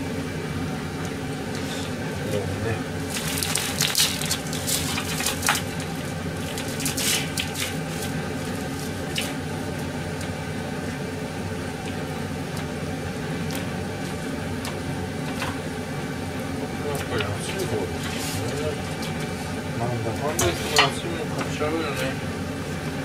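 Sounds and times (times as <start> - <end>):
low kitchen hum: 0.0 - 23.0
wet squishing food handling: 2.8 - 22.9.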